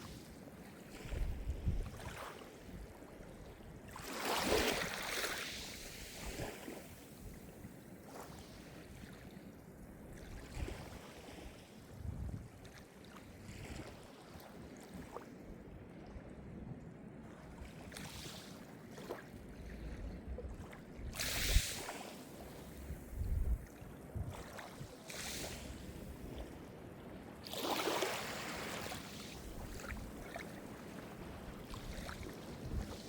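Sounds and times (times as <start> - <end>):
small waves breaking on shore: 0.0 - 9.4, 10.2 - 15.4, 17.4 - 33.0.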